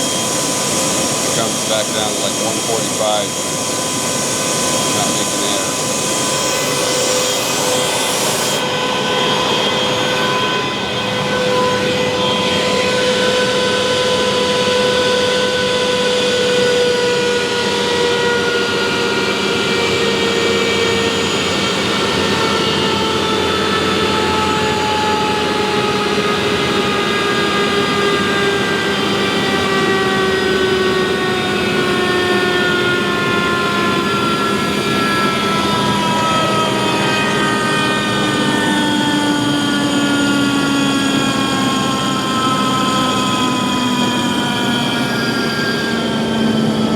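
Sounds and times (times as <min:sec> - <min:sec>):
air compressor whine: 0:00.0 - 0:46.9.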